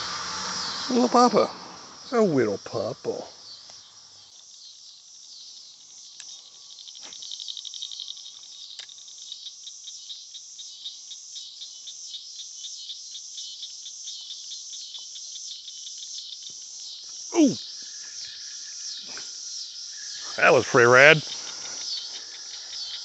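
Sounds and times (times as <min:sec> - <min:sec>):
insects pulsing trill: 0:00.0 - 0:23.0.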